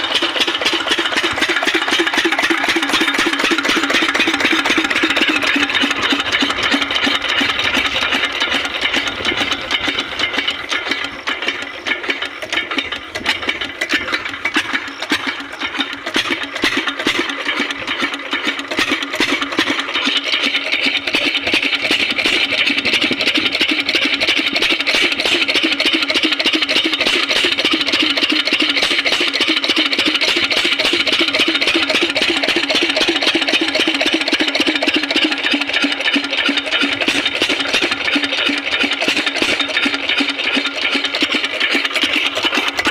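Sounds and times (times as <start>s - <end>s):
diesel pump engine running: 0.0s - 42.9s.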